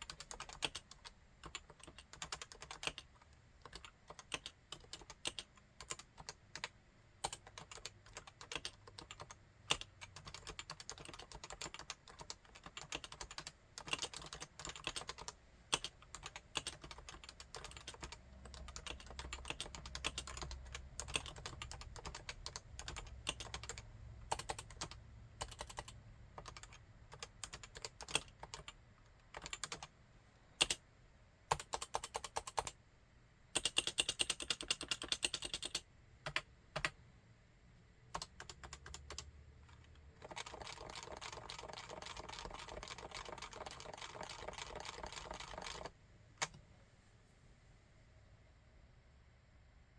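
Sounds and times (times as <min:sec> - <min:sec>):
keyboard typing: 0:00.0 - 0:29.9, 0:30.6 - 0:30.8, 0:31.5 - 0:32.8, 0:33.6 - 0:37.0, 0:38.1 - 0:46.6.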